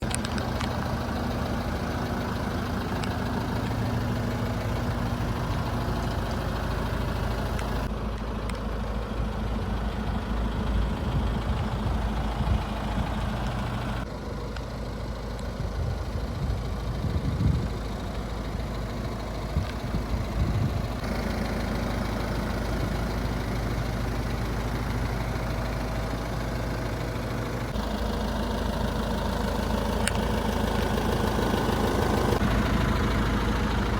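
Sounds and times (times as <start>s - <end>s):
diesel lorry engine idling: 0.0s - 33.9s.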